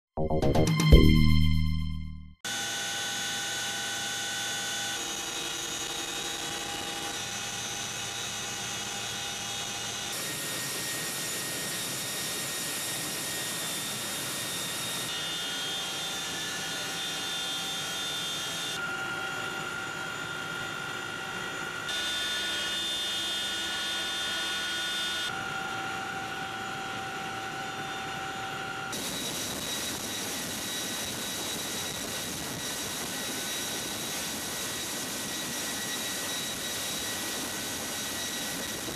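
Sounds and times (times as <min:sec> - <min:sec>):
helicopter turbine and rotors: 0:02.5 - 0:38.9.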